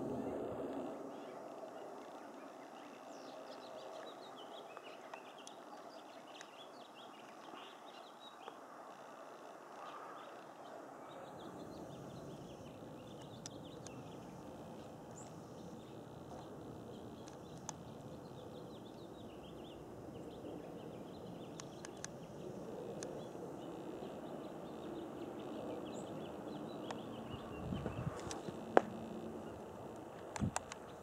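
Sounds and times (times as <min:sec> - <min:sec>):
small birds twittering: 0:00.0 - 0:31.0.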